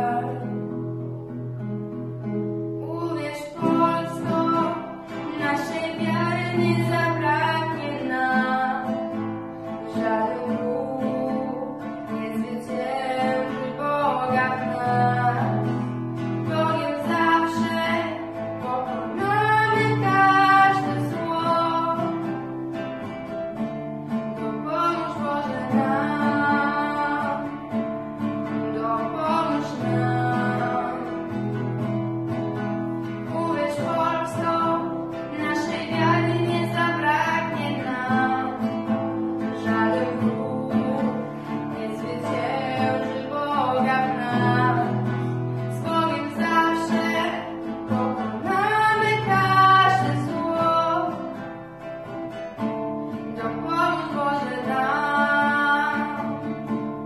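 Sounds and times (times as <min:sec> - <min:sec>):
girl singing: 0:00.0 - 0:51.4, 0:52.4 - 0:57.0
acoustic guitar: 0:00.0 - 0:57.0.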